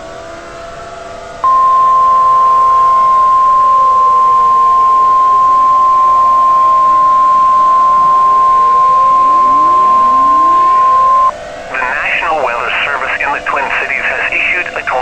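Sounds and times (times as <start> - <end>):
distant warning sirens: 0.0 - 15.0
continuous alert tone: 1.4 - 15.0.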